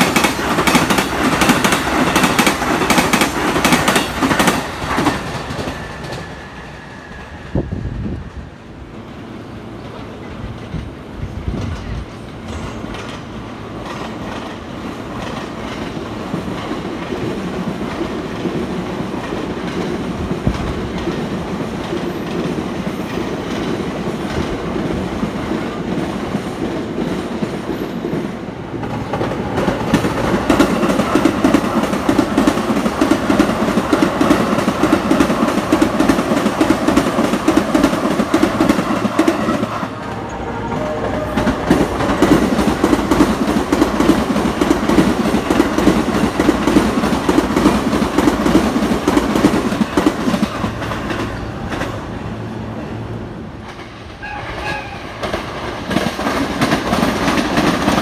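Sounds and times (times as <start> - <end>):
train wheels clattering over rails: 0.0 - 52.2, 53.6 - 58.0.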